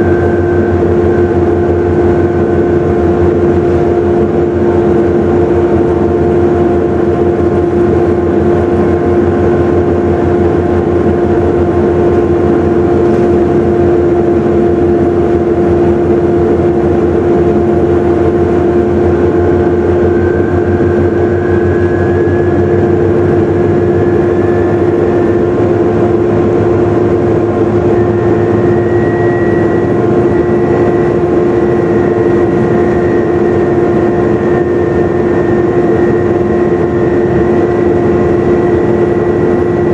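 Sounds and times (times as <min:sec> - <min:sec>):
bus engine droning with whine: 0:00.0 - 0:39.9
high-pitched rising whine: 0:00.0 - 0:39.9.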